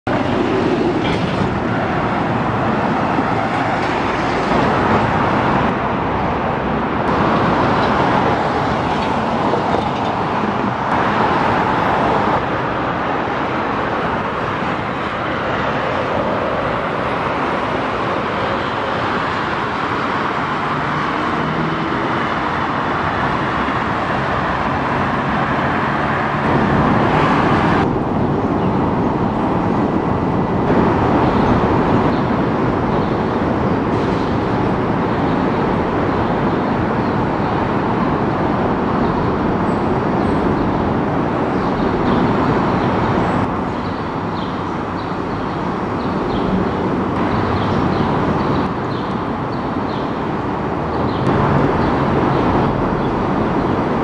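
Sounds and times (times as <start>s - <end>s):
cars passing on road: 0.0s - 54.0s.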